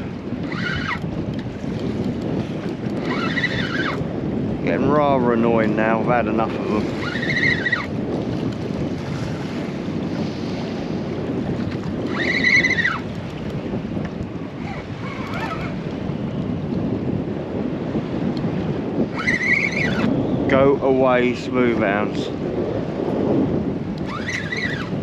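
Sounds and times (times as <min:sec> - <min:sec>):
water slapping boat hull: 0:00.0 - 0:25.0
wind buffeting microphone: 0:00.0 - 0:25.0.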